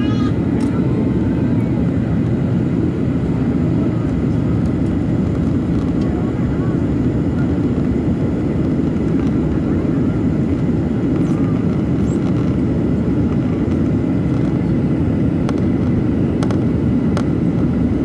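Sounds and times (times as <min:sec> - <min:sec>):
airflow over fuselage: 0:00.0 - 0:18.0
jet engine rumble: 0:00.0 - 0:18.0.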